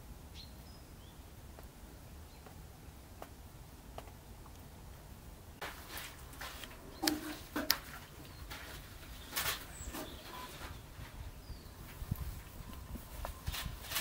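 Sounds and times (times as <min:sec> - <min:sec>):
rustles: 0:00.0 - 0:14.0.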